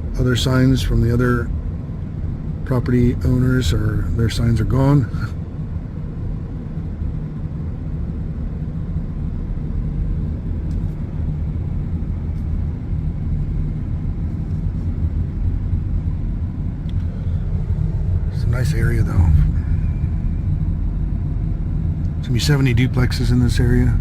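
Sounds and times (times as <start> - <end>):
car interior road and engine rumble: 0.0 - 24.0.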